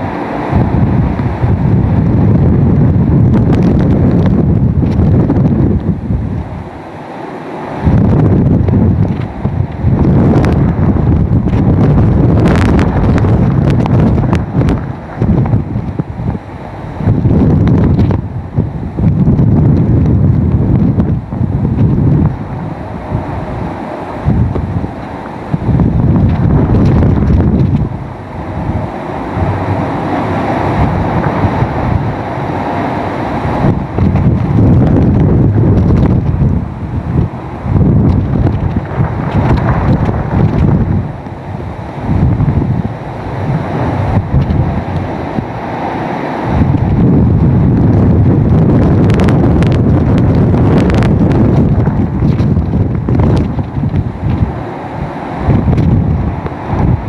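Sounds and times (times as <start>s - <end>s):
rushing wind: 0.0s - 57.0s
wind gusts buffeting microphone: 0.0s - 57.0s.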